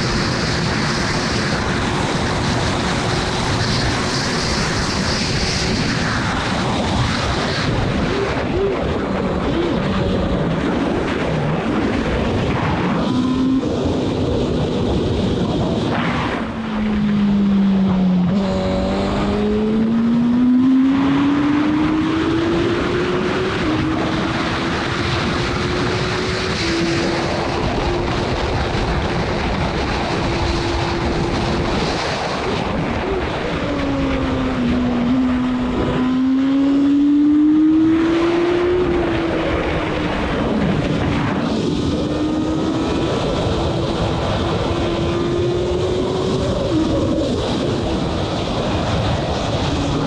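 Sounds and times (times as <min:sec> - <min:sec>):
racing car engine: 0:00.0 - 0:50.0
wind and road noise: 0:00.0 - 0:50.0.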